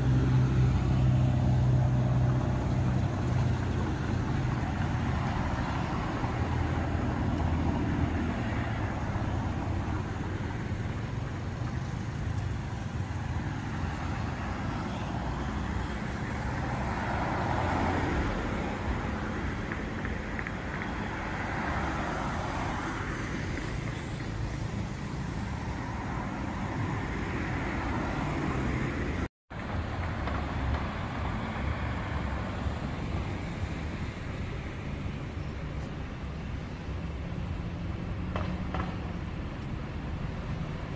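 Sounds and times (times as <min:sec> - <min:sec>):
road traffic rumble: 0:00.0 - 0:40.9.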